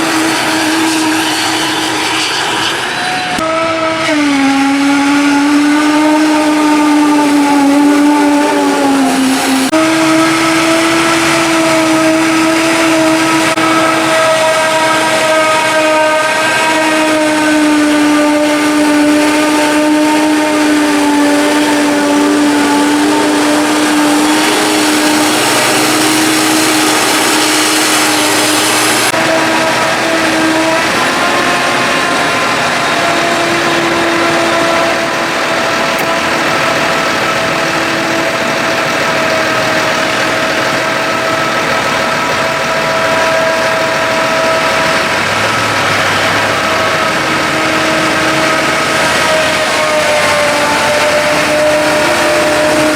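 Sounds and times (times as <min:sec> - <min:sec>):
engine drone: 0:00.0 - 0:52.9
high-pitched machine whine: 0:00.0 - 0:52.9.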